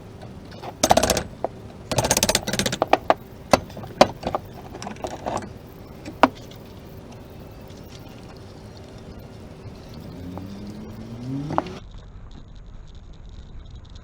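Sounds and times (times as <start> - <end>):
faint steady hum: 0.0 - 11.8
small parts clicking and knocking: 0.0 - 11.8.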